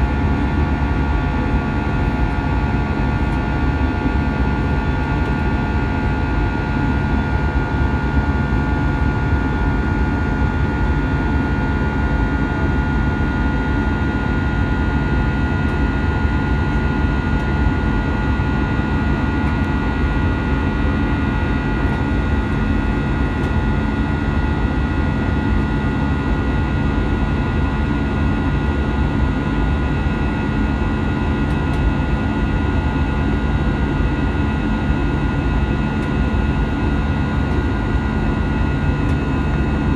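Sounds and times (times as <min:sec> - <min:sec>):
airliner cabin engine noise: 0:00.0 - 0:39.9.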